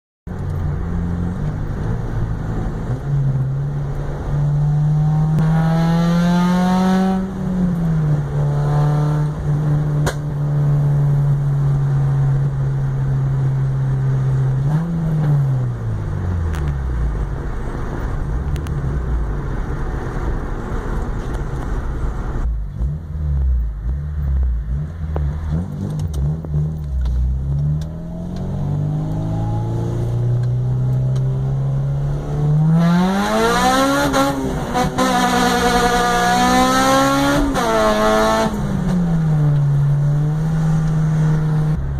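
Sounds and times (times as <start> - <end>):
car engine revving: 0.3 - 41.9.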